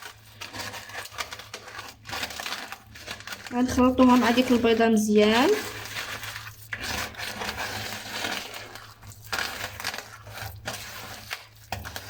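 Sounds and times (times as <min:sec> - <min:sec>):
hand squeezing batter in a bowl: 0:00.0 - 0:12.0.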